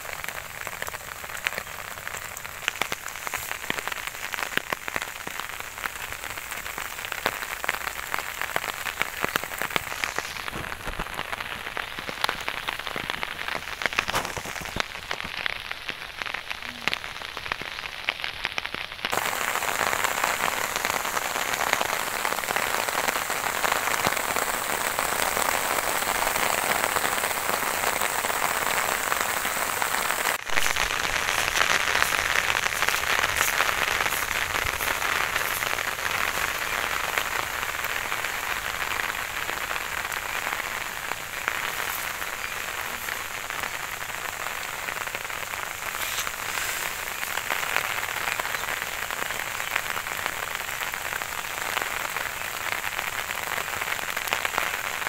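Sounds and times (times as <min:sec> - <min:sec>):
rain falling on leaves: 0:00.0 - 0:55.0
raindrops ticking: 0:00.0 - 0:55.0.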